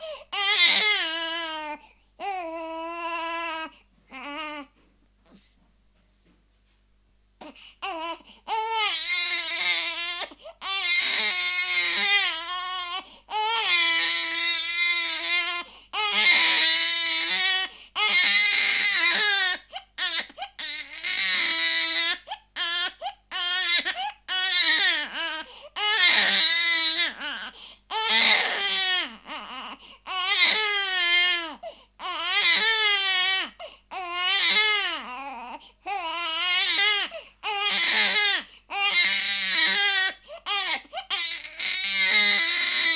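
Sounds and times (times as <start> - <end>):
baby crying: 0.0 - 4.8, 7.4 - 42.9.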